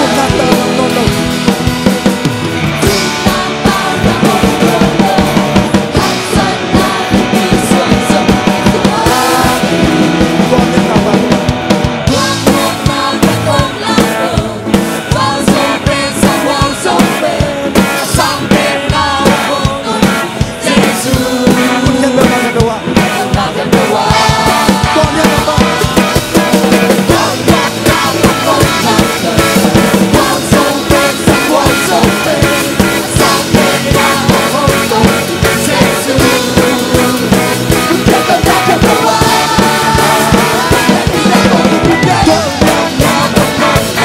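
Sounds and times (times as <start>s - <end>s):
drum kit beat: 0.0s - 44.0s
people singing: 0.0s - 44.0s
worship band playing: 0.0s - 44.0s.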